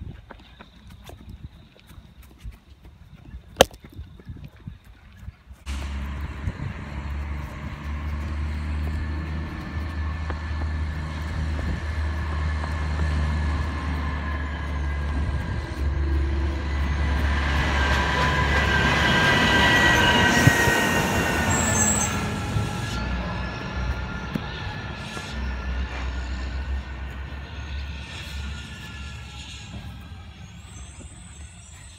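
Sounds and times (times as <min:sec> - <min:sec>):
garbage truck diesel engine: 0:05.7 - 0:31.9
high-pitched whine: 0:05.7 - 0:31.9.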